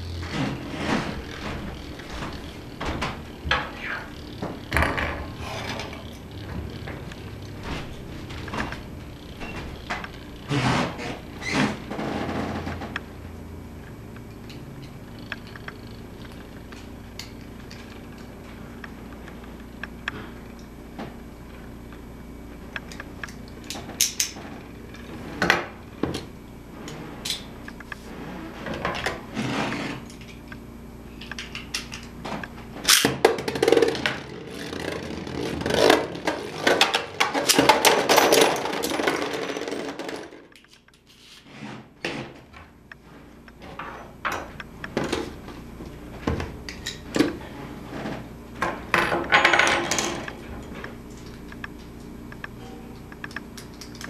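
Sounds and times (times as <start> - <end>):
tops clattering and grinding: 0.0 - 13.2, 13.8 - 30.6, 31.2 - 54.0.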